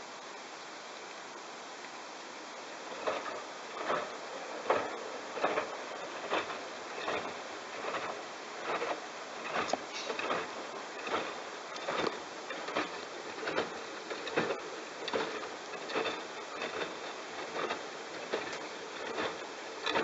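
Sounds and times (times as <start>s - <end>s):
washing machine drum sloshing: 2.8s - 20.0s.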